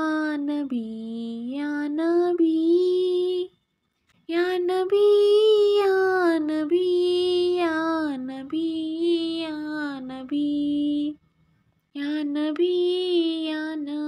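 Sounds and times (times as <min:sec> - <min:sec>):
woman singing unaccompanied: 0:00.0 - 0:03.5, 0:04.3 - 0:11.2, 0:11.9 - 0:14.0.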